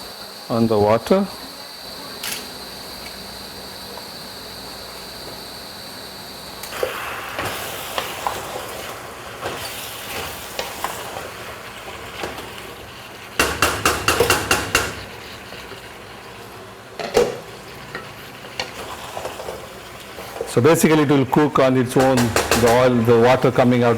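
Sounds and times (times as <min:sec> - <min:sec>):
food sizzling in a pot: 0:02.6 - 0:23.9.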